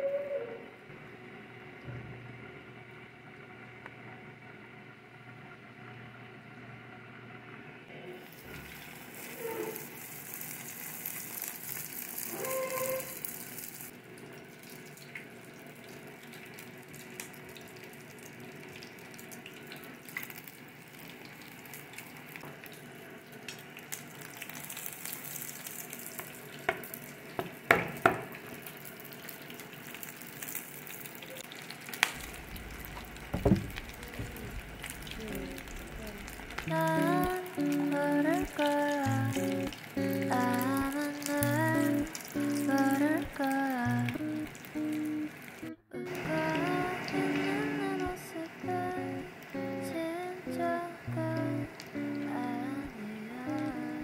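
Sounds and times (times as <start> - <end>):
food sizzling in hot oil: 8.2 - 54.0.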